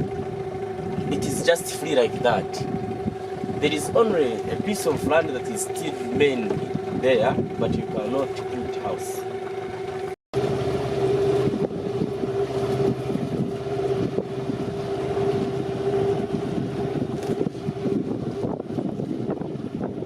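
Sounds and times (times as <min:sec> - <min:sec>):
motorboat engine droning: 0:00.0 - 0:20.0
wind buffeting microphone: 0:00.0 - 0:20.0.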